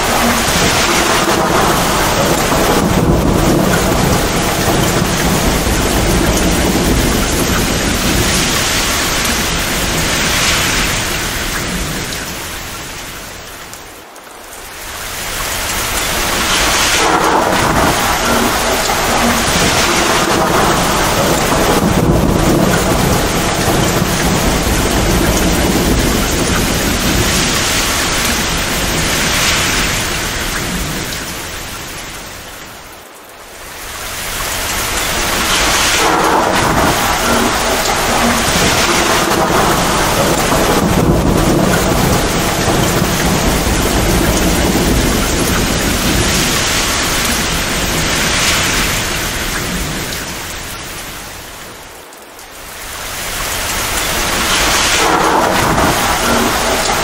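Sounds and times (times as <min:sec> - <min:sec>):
low rolling thunder: 0:00.0 - 0:14.0, 0:14.6 - 0:32.6, 0:33.8 - 0:51.8, 0:52.7 - 0:57.0
torrential rain pouring: 0:00.0 - 0:57.0.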